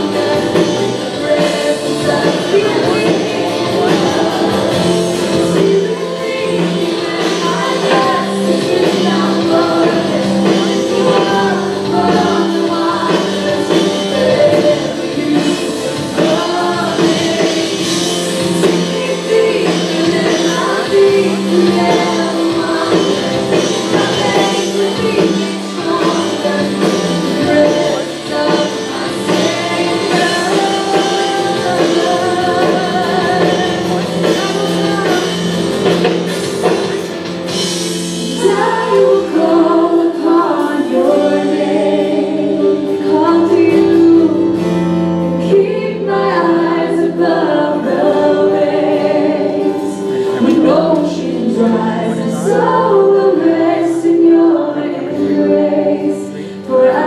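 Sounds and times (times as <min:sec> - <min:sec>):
band playing worship music: 0:00.0 - 0:57.0
people singing: 0:00.0 - 0:57.0.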